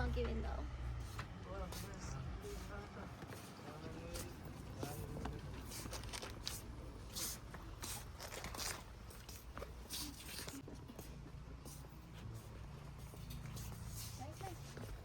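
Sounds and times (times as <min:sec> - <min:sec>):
rustling and handling noises: 0:01.0 - 0:15.0.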